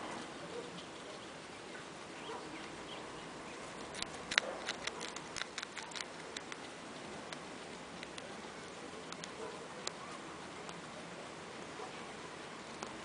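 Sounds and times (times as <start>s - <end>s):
guinea pig chewing grass: 0.0s - 12.0s, 12.6s - 13.0s.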